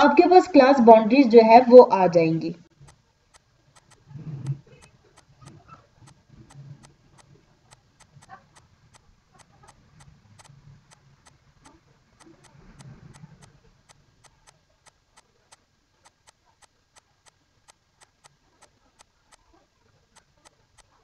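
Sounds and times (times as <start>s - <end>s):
rapid even ticking: 2.7s - 21.0s.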